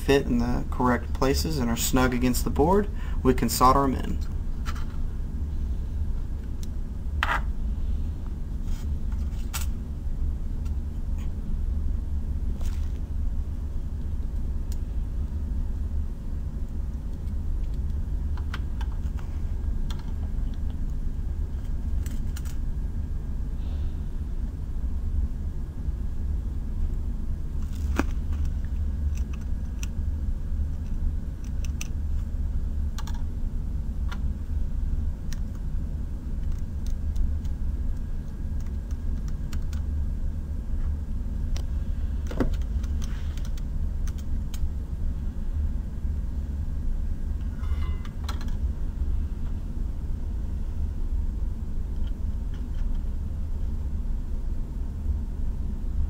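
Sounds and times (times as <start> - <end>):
low rumble of background noise: 0.0 - 56.0.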